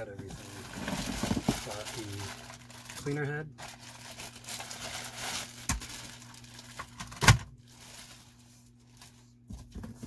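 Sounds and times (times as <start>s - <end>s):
plastic rustling: 0.0s - 10.0s.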